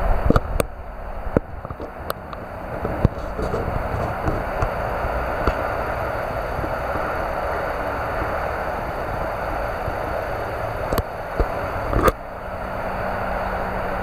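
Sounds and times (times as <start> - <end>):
water rushing: 0.0 - 14.0
wind: 0.0 - 14.0.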